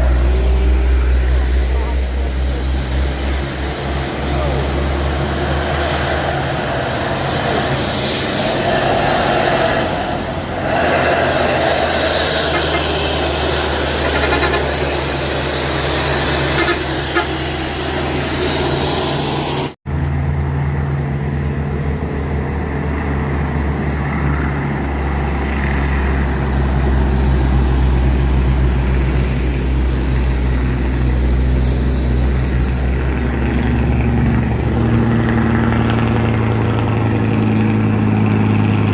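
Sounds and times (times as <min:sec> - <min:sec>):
road and traffic noise: 0:00.0 - 0:38.9
truck engine droning: 0:00.0 - 0:38.9.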